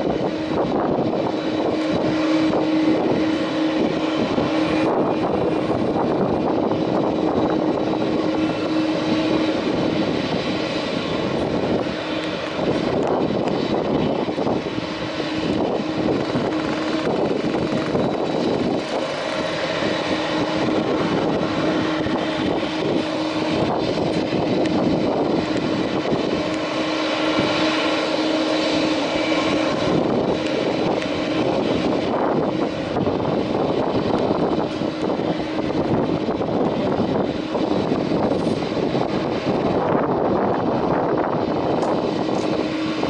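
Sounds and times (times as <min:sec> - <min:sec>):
jet engines whine and rush: 0:00.0 - 0:43.0.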